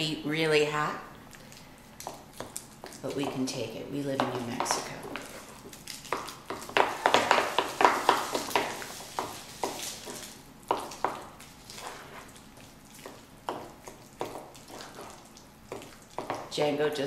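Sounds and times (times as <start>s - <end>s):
wet squishing of guacamole: 1.3s - 3.6s, 4.4s - 16.6s.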